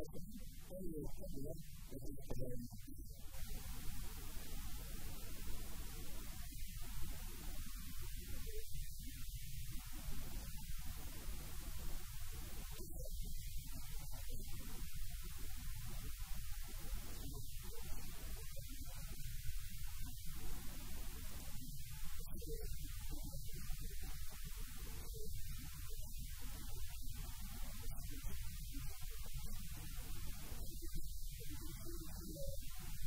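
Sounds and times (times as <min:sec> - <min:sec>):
electrical mains hum: 0:00.0 - 0:33.0
faint indistinct mid-range sounds: 0:00.0 - 0:33.0.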